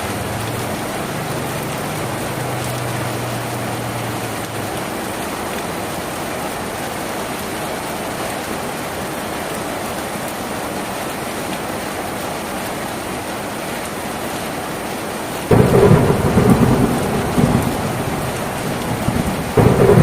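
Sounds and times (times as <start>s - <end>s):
heavy rain on a tin roof: 0.0s - 20.0s.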